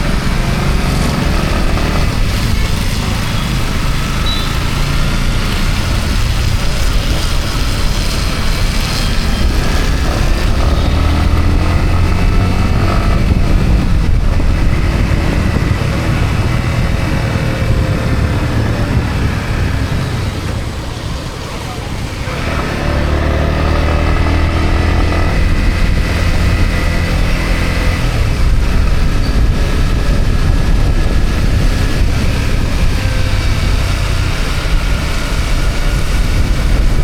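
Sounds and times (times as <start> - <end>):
motorcycle engine running: 0.0 - 37.0
tyres on wet road: 0.0 - 37.0
wind: 0.0 - 37.0.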